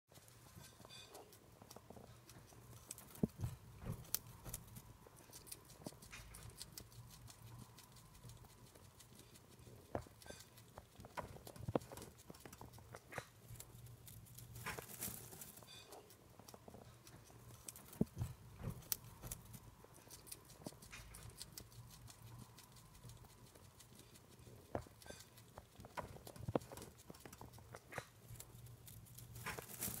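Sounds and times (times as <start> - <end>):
hamster gnawing carrot: 0.1 - 30.0.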